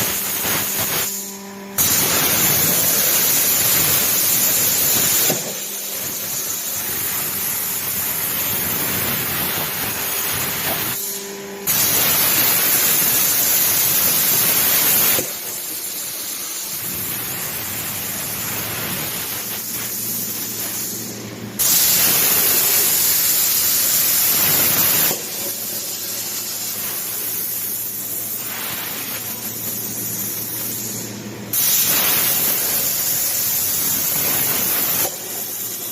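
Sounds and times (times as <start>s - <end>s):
plasma arc hissing: 0.0s - 35.9s.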